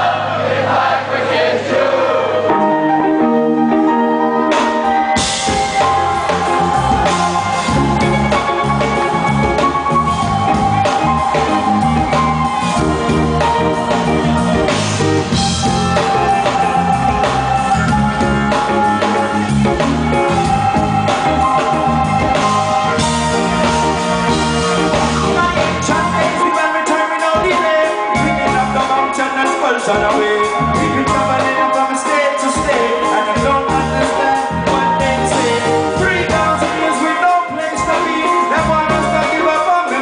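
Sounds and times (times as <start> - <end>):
live band playing: 0.0 - 40.0
electric organ chords: 2.0 - 40.0.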